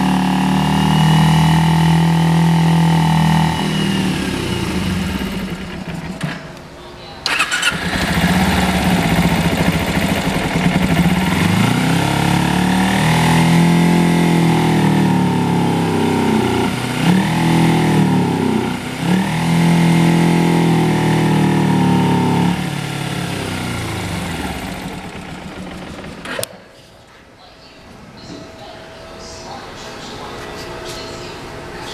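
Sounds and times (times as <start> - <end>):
motorcycle engine idling and revving: 0.0 - 6.7, 7.3 - 26.5.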